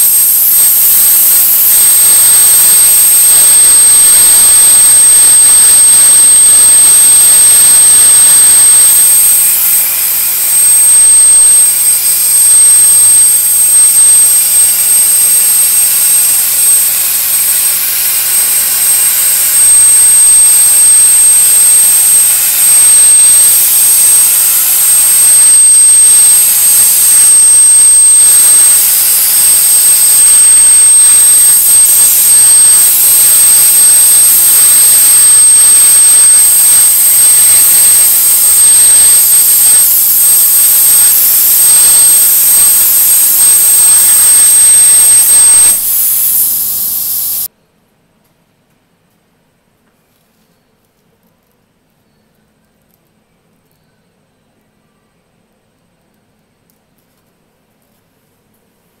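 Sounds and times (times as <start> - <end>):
high whine from arc: 0.0 - 47.5
plasma cutter torch hissing: 0.0 - 47.5.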